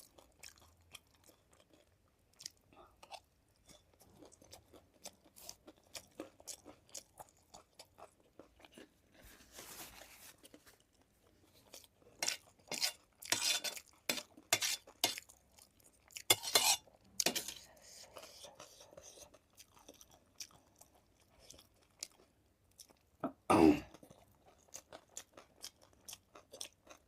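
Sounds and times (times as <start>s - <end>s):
person chewing food: 0.0s - 23.2s, 23.8s - 27.0s.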